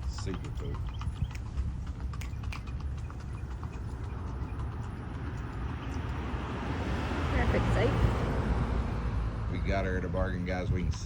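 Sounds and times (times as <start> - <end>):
hooves clip-clopping on hard ground: 0.0 - 11.0.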